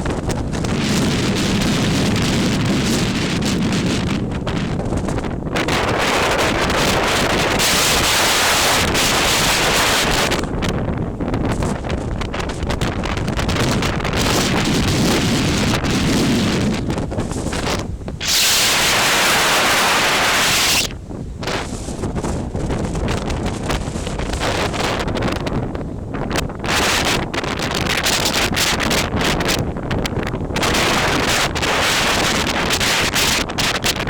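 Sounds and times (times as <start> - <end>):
strong gusting wind on microphone: 0.0 - 34.0.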